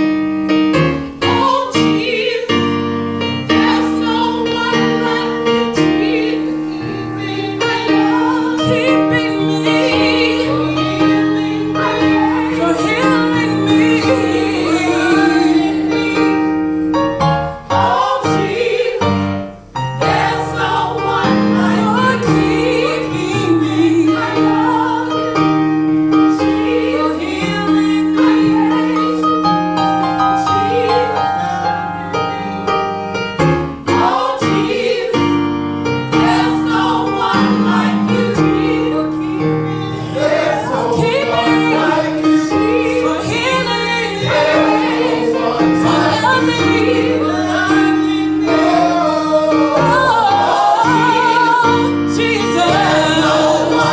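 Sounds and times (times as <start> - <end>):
gospel choir singing: 0.0 - 53.9
piano accompaniment: 0.0 - 53.9.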